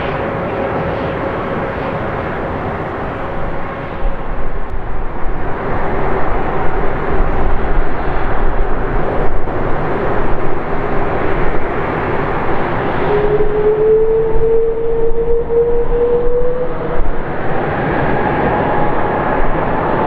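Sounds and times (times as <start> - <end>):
jet engines roaring with whine: 0.0 - 20.0.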